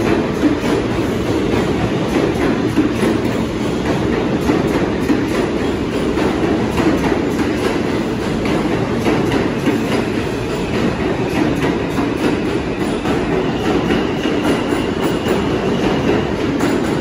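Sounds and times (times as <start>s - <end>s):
subway train rumbling past: 0.0s - 17.0s
wheels clacking over rail joints: 0.0s - 17.0s.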